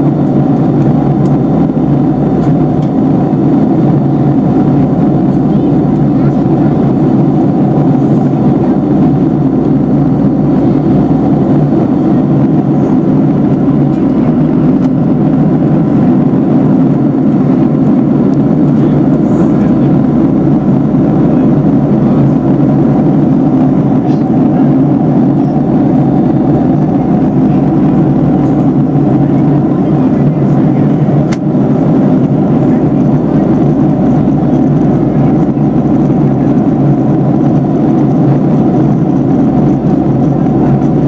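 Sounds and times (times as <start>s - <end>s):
airliner cabin engine rush: 0.0s - 41.0s.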